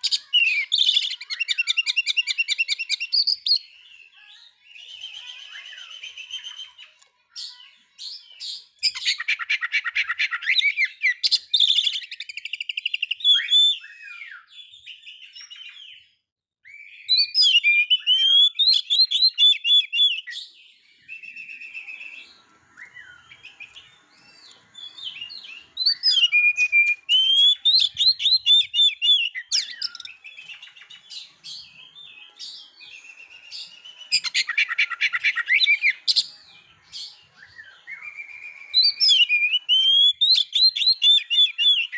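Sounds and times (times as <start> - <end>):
bird whistling and twittering: 0.0 - 41.9.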